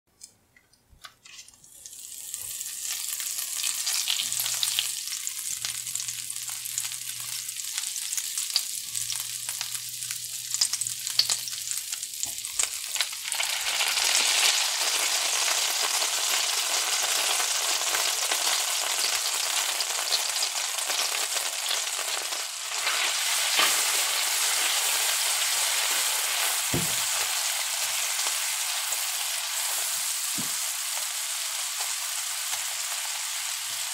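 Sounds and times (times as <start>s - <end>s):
butter sizzling in a frying pan: 1.7s - 33.9s.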